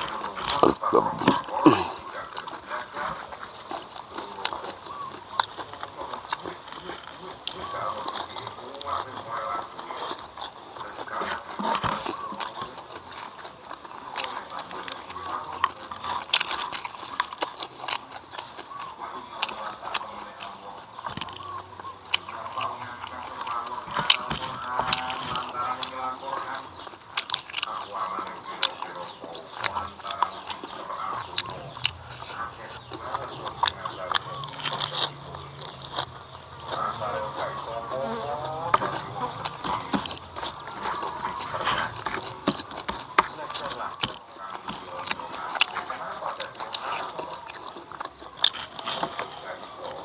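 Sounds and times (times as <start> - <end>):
chewing with wet smacks: 0.0 - 50.0.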